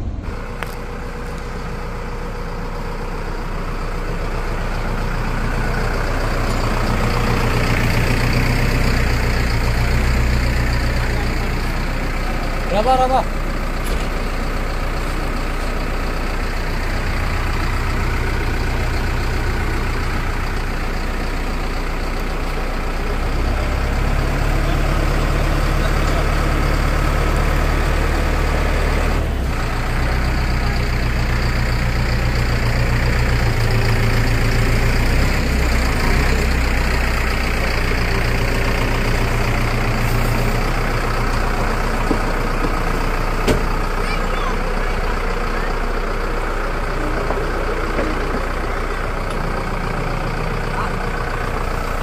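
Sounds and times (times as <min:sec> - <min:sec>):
diesel engine under load: 0:00.0 - 0:52.0.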